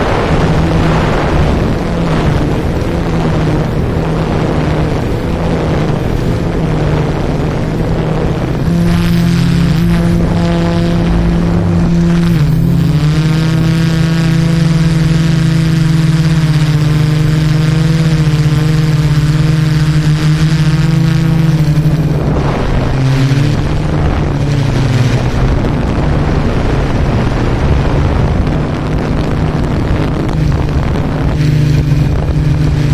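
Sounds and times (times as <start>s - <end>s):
drone propellers humming: 0.0s - 32.9s.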